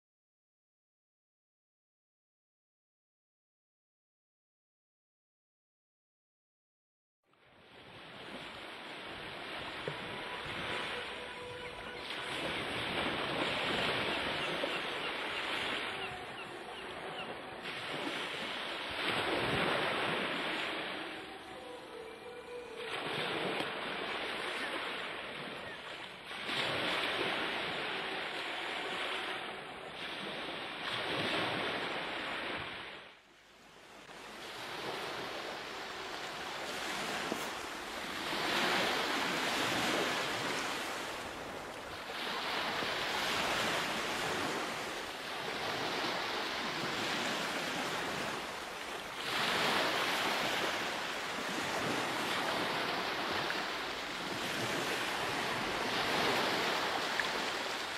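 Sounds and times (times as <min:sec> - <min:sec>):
waves breaking and washing in: 0:07.3 - 0:57.9.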